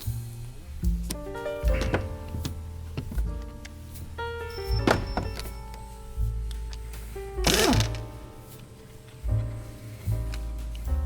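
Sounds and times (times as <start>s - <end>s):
deep bass line: 0.0s - 11.0s.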